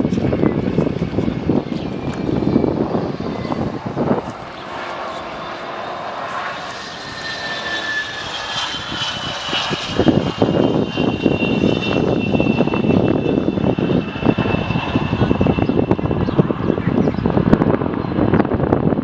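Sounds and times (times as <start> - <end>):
jet engines whining: 0.0 - 19.0
steady rushing noise: 0.0 - 19.0.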